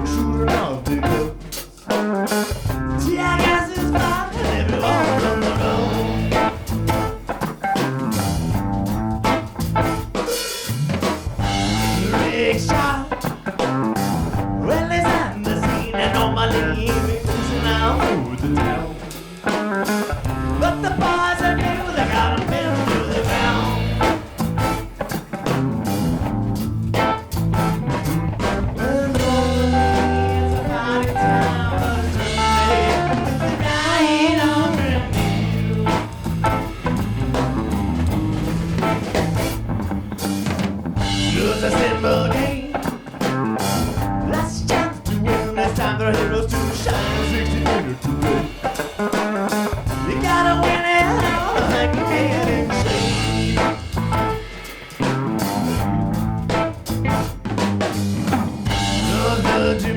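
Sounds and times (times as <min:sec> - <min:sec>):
drum kit: 0:00.0 - 0:59.9
guitar: 0:00.0 - 0:59.9
live band playing blues: 0:00.0 - 0:59.9.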